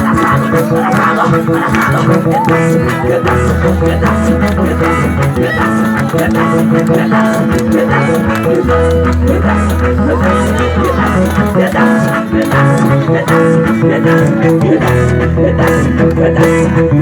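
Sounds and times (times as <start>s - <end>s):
held bass notes: 0.0s - 17.0s
percussive beat: 0.0s - 17.0s.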